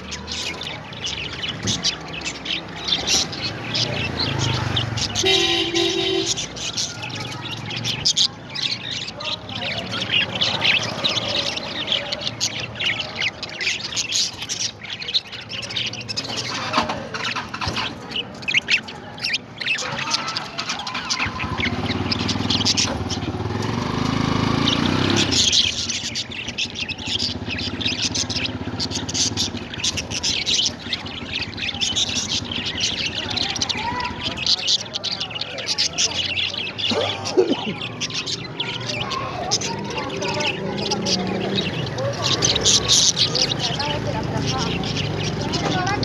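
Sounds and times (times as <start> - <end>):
parrots chirping and squawking: 0.0 - 46.0.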